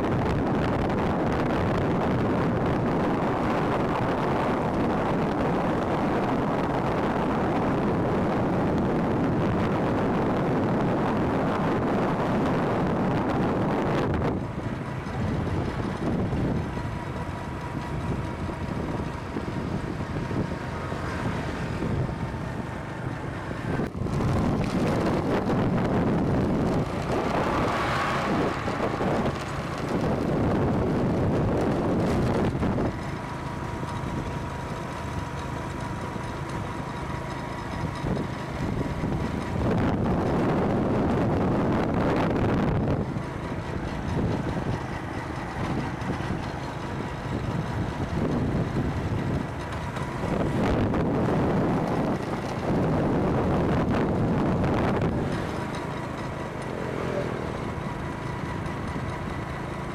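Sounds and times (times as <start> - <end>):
wind rushing over microphone: 0.0 - 35.4, 37.2 - 59.9
road noise: 0.0 - 59.9.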